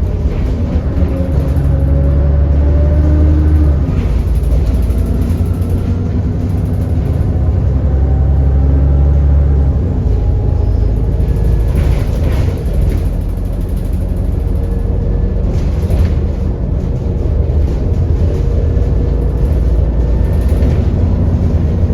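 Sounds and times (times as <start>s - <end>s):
bus engine and road noise: 0.0s - 21.9s.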